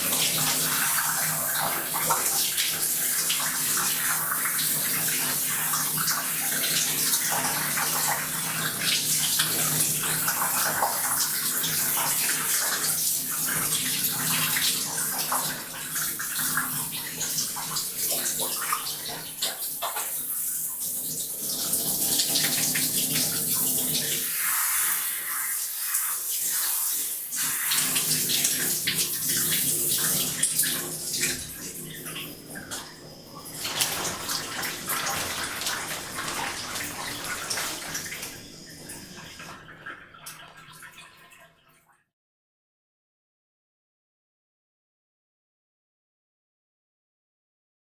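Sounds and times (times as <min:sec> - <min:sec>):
shower water splashing into bathtub: 0:00.0 - 0:41.9.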